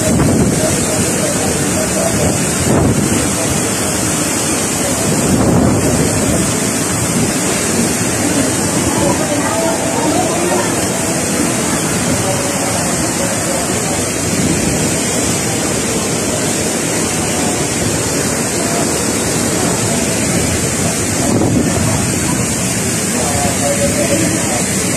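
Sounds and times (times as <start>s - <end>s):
wind buffeting microphone: 0.0s - 23.4s
fast-running water: 0.0s - 24.9s
wind and rain rushing: 0.0s - 24.9s.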